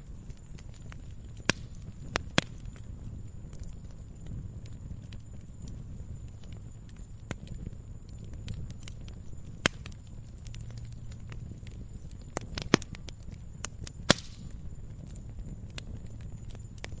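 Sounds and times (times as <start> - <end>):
firewood crackling: 0.0 - 17.0
low rumble of fire: 0.0 - 17.0
sharp pops of burning wood: 0.0 - 17.0.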